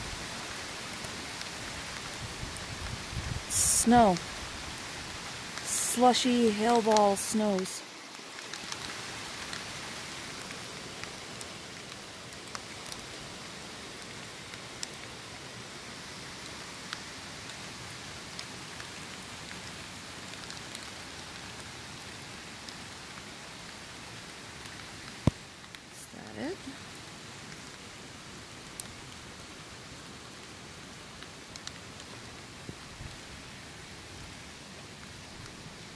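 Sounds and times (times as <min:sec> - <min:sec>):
rain and hail hissing: 0:00.0 - 0:35.9.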